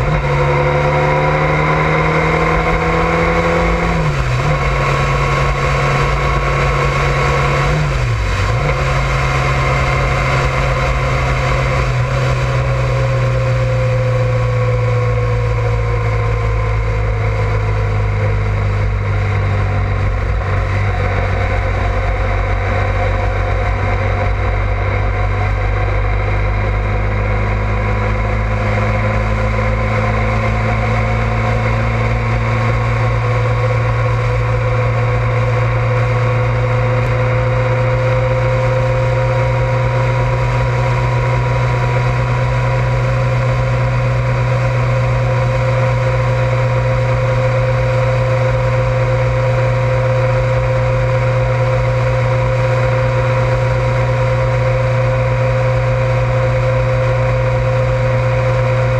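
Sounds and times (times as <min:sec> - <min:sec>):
motorcycle engine cruising: 0:00.0 - 0:58.9
road and wind noise: 0:00.0 - 0:58.9.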